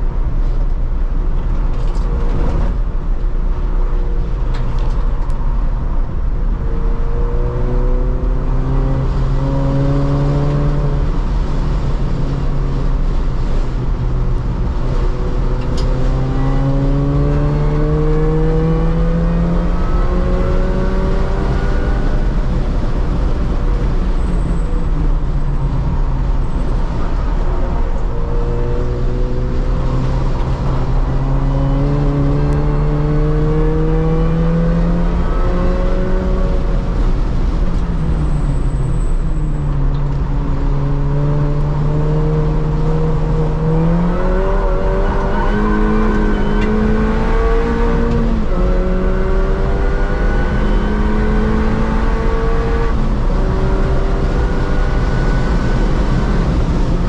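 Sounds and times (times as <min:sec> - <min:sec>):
road and wind noise: 0:00.0 - 0:57.0
car engine accelerating: 0:03.9 - 0:57.0.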